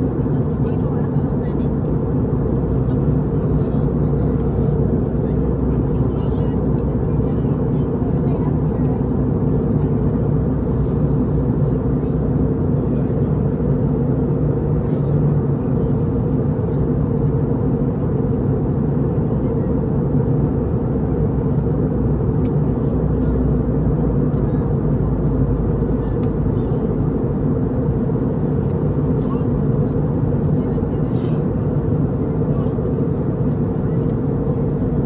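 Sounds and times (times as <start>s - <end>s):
airliner cabin engine drone: 0.0s - 35.0s.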